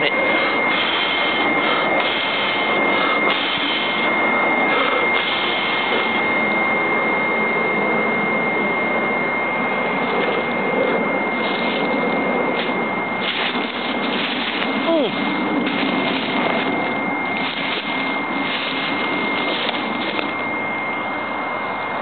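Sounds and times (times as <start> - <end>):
stove fan blowing air: 0.0 - 22.0
thin high whine: 0.0 - 22.0.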